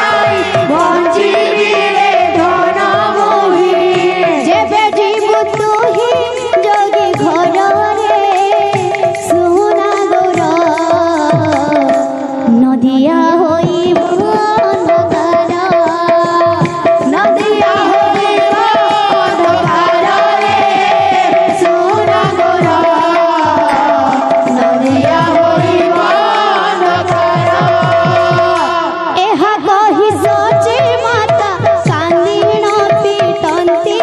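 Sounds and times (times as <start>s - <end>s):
hand drum beats: 0.0s - 34.0s.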